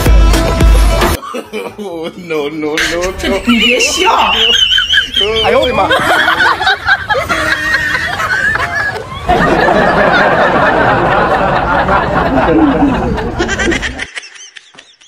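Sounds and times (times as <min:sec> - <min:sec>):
crowd laughing: 0:01.2 - 0:15.0
crowd talking: 0:01.6 - 0:14.0.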